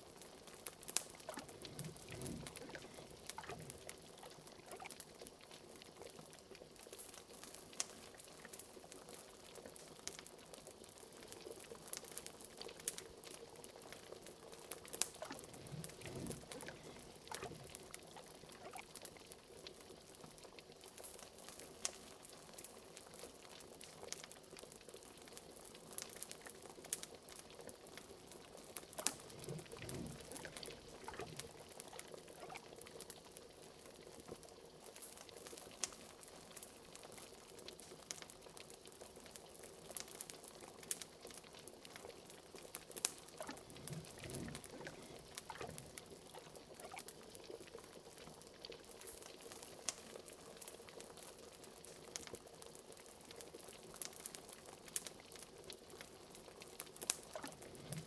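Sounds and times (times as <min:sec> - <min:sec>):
liquid bubbling at a boil: 0:00.0 - 0:58.0.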